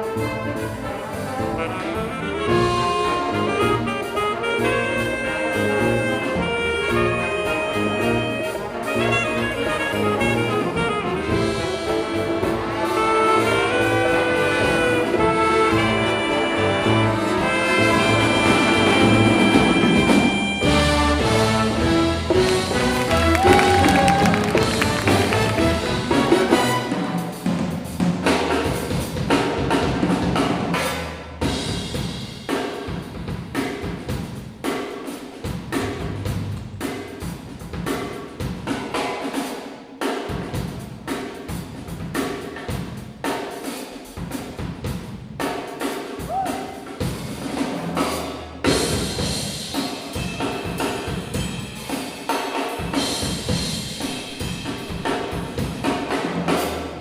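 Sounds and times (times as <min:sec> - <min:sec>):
jazz big band playing: 0:00.0 - 0:57.0
snare and bass drum hits: 0:00.0 - 0:57.0.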